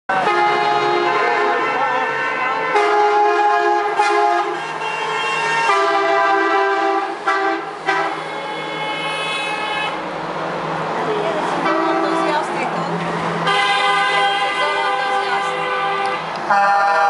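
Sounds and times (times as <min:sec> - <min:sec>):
truck horns blasting: 0:00.1 - 0:10.0, 0:11.6 - 0:12.5, 0:13.3 - 0:17.0.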